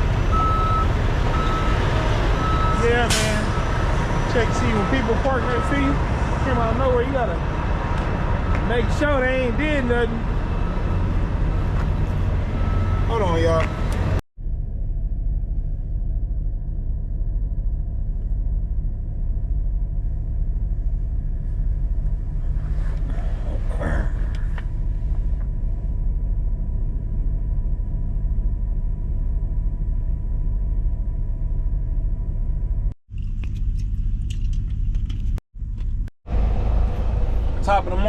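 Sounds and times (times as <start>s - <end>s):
diesel truck engine rumbling: 0.0s - 32.9s, 35.6s - 38.0s.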